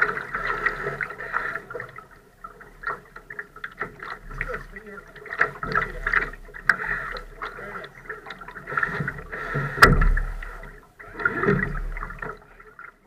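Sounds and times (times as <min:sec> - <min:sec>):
water splashing against hull: 0:00.0 - 0:13.0.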